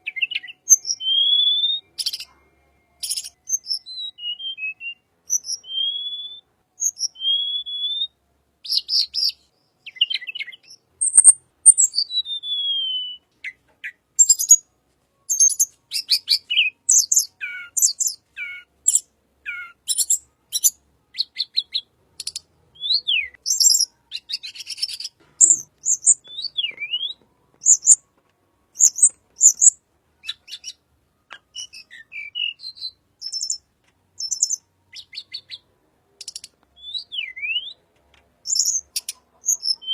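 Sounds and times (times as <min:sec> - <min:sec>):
bird singing whistles and trills: 0:00.0 - 0:02.3, 0:02.9 - 0:14.7, 0:15.3 - 0:28.0, 0:28.7 - 0:33.6, 0:34.2 - 0:35.6, 0:36.2 - 0:37.8, 0:38.4 - 0:39.9.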